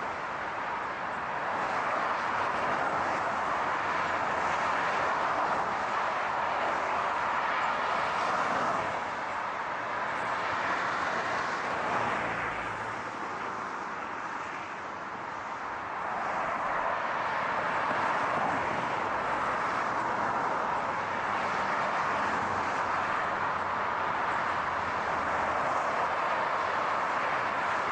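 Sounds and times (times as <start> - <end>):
car road noise rushing: 0.0 - 27.9.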